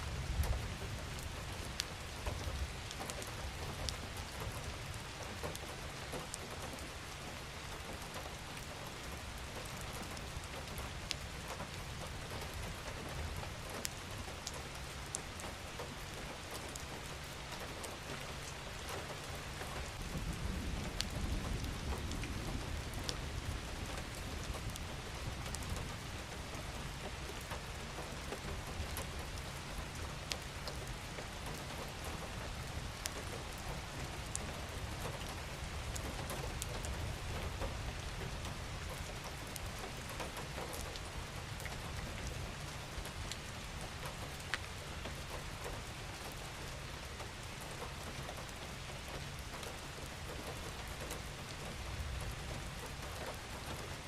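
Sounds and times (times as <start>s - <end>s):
rain hiss: 0.0s - 54.0s
raindrops ticking: 0.2s - 54.0s.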